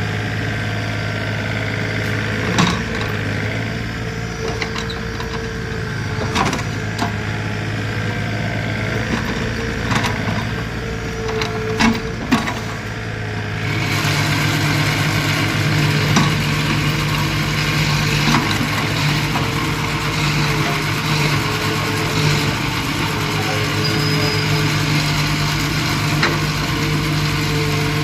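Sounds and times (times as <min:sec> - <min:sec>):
backhoe diesel engine running: 0:00.0 - 0:28.0.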